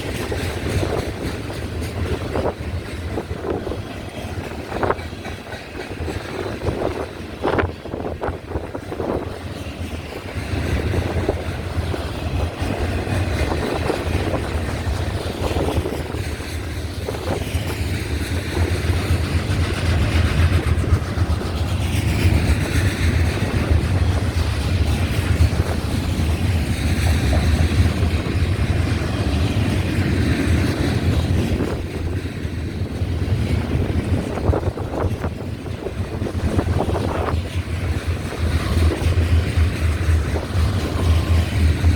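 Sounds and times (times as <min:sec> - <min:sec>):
freight train rumbling past: 0:00.0 - 0:41.9
wind buffeting microphone: 0:00.0 - 0:41.9.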